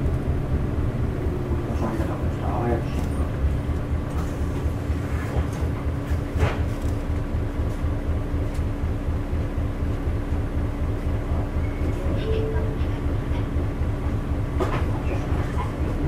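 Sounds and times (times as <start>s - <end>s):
diesel bus engine rumbling: 0.0s - 16.0s.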